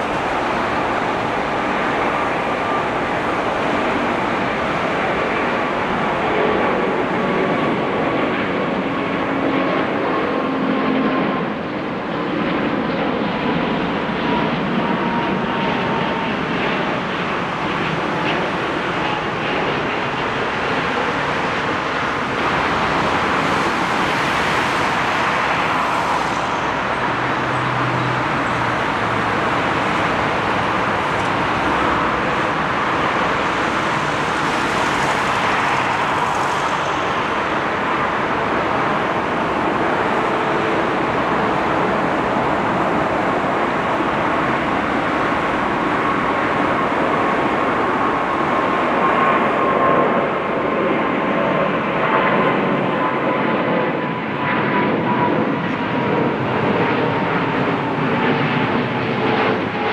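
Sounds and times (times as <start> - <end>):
jet engine roar at takeoff: 0.0 - 59.9.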